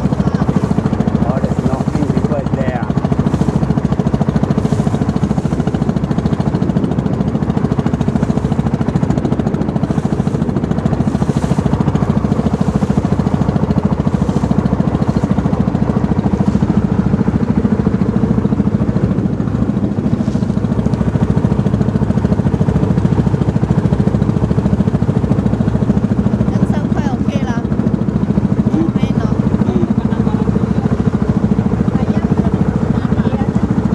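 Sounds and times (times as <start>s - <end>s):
boat engine chugging: 0.0s - 33.9s.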